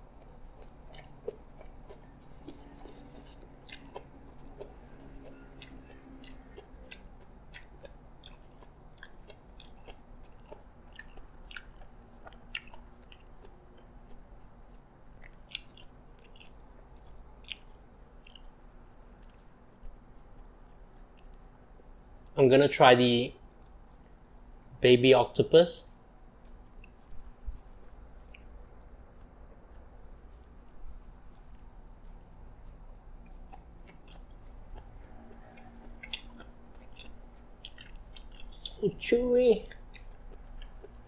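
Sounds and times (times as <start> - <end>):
close-up chewing with crunches: 0.0 - 22.4, 23.4 - 24.7, 25.8 - 41.0.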